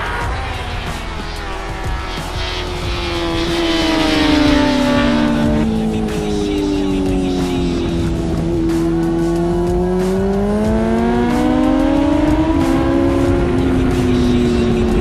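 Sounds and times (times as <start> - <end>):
wind rush: 0.0 - 9.2, 12.1 - 15.0
motorcycle engines accelerating: 0.0 - 15.0.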